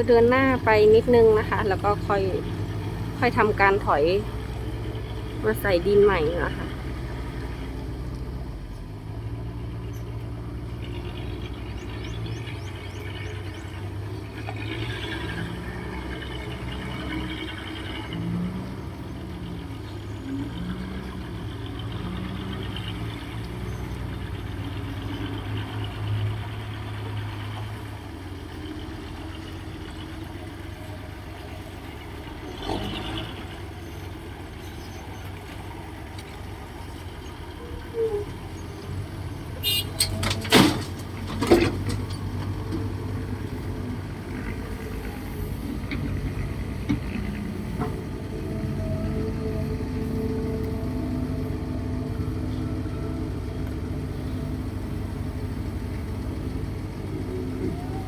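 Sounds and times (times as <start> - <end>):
diesel engines droning: 0.0 - 58.0.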